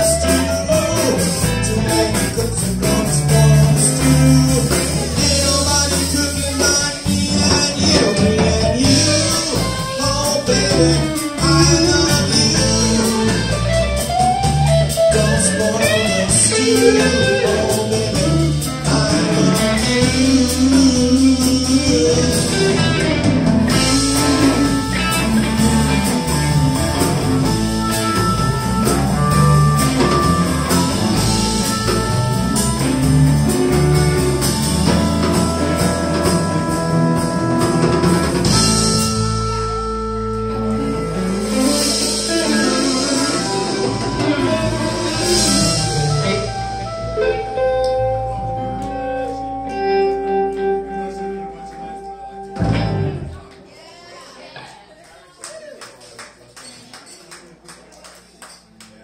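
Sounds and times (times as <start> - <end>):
blues harmonica bending notes: 0.0 - 53.5
live electric blues band: 0.0 - 53.7.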